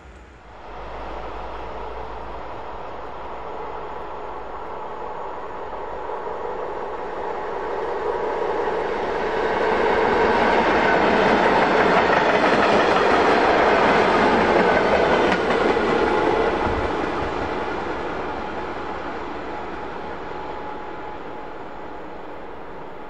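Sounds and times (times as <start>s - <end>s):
electric train passing by: 0.0s - 23.0s.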